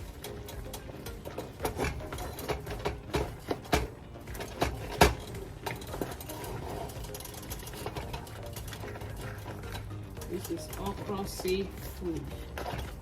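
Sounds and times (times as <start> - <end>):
metal utensil scraping cooking pot: 0.0 - 13.0.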